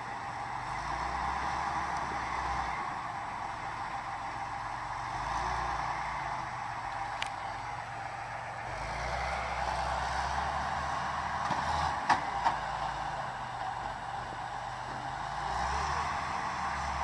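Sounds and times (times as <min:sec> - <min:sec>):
truck engine running under load: 0:00.0 - 0:17.0.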